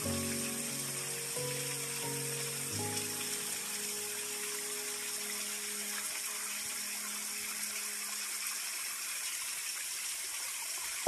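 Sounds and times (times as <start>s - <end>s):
soft background music: 0.0s - 9.0s
water trickling down rock: 0.0s - 11.0s.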